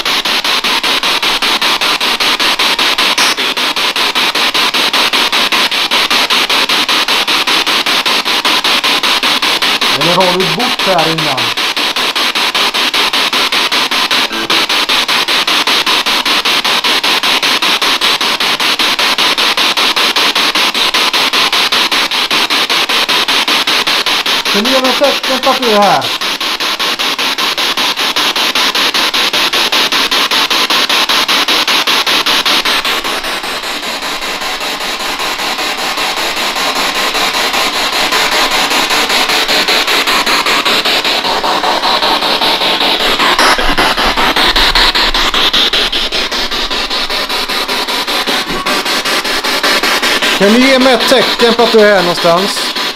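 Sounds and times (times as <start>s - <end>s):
radio static hissing: 0.0s - 52.9s.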